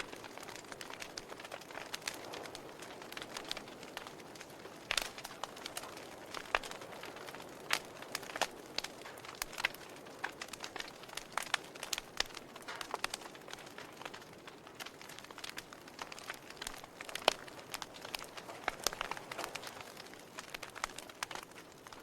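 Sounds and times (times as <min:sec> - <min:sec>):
soft steady hiss: 0:00.0 - 0:22.0
wood fire crackling: 0:00.0 - 0:22.0.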